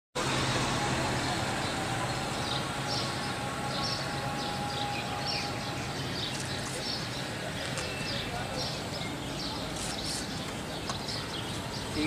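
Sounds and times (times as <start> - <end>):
road noise with low hum: 0.2 - 12.0.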